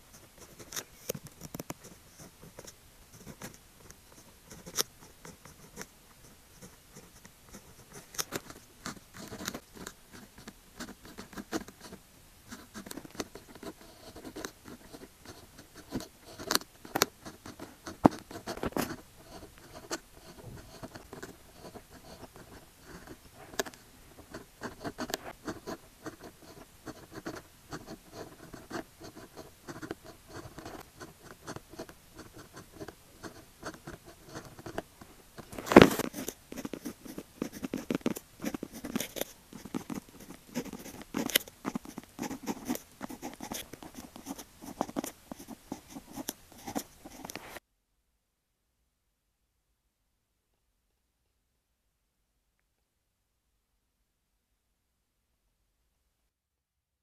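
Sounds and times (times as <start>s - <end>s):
pen scratching on paper: 0.1s - 47.6s.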